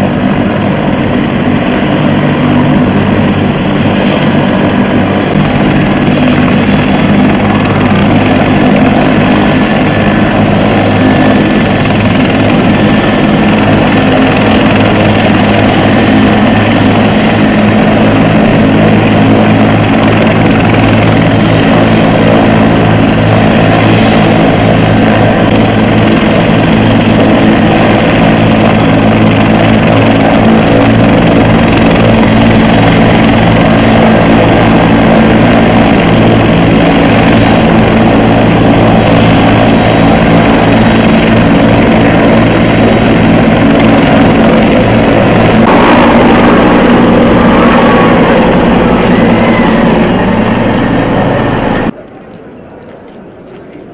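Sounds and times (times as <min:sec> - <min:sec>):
helicopter rotor and turbine: 0:00.0 - 0:52.0.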